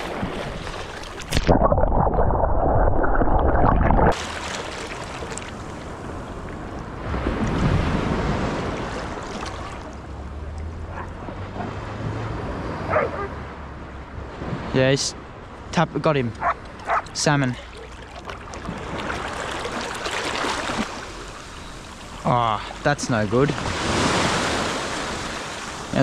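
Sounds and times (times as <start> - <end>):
sea water lapping: 0.0 - 1.6, 4.1 - 13.5, 15.4 - 26.0
muffled rush of water: 0.0 - 12.3, 13.9 - 26.0.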